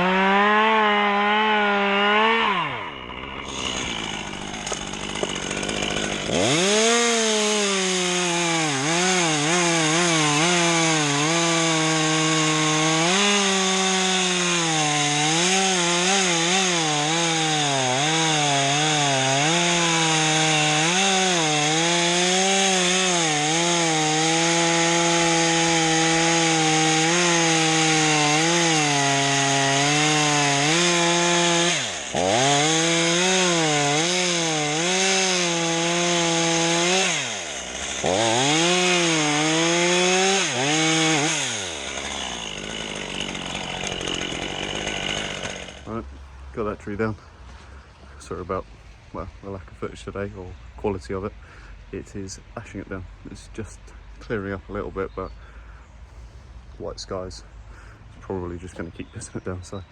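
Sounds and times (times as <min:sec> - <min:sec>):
chainsaw cutting wood: 0:00.0 - 0:55.6.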